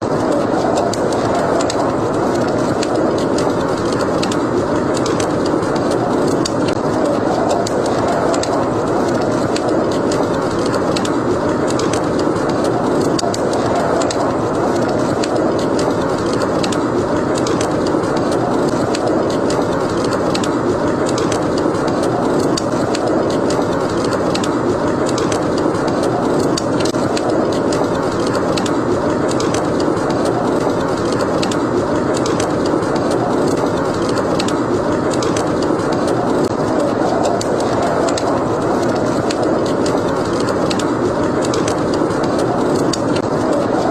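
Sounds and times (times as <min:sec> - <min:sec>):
howling snowstorm wind: 0:00.0 - 0:43.9
wood fire crackling: 0:00.0 - 0:43.9.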